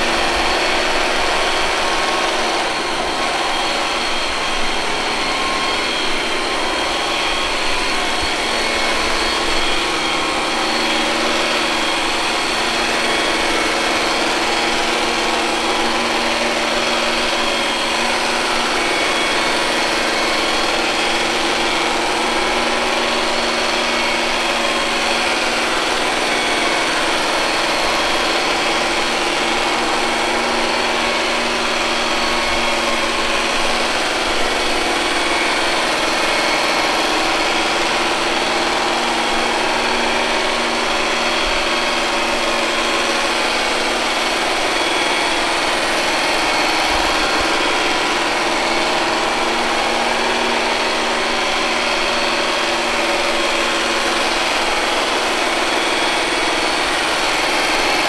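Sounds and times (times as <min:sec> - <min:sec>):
robot vacuum cleaner whirring: 0:00.0 - 0:58.0.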